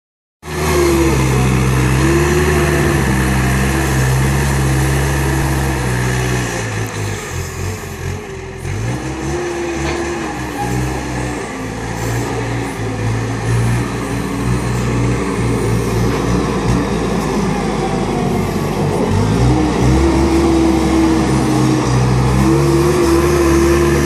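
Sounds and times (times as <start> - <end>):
diesel engine working under load: 0.4 - 24.0.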